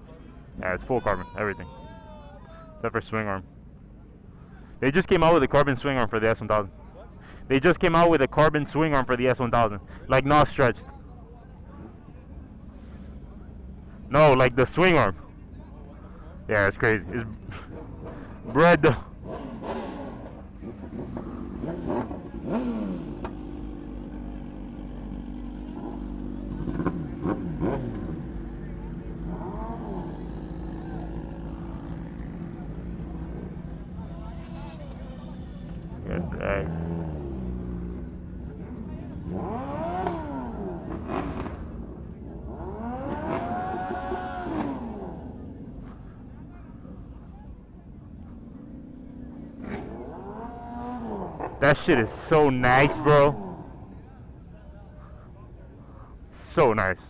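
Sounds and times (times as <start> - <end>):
motorcycle engines idling and revving: 0.0 - 57.0.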